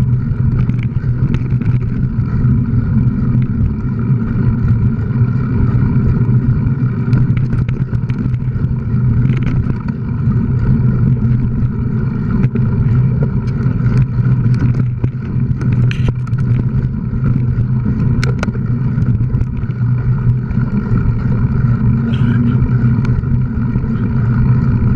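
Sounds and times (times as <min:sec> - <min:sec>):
low hum and rumble of movement: 0:00.0 - 0:24.9.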